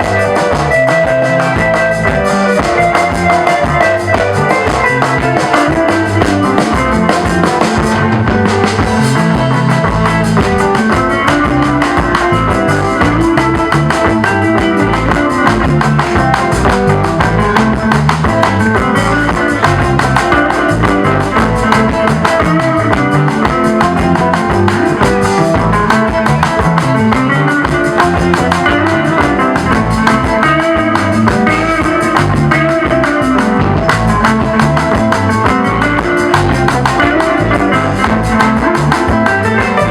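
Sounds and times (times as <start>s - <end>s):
electric guitar solo: 0.0s - 39.9s
live band music: 0.0s - 39.9s.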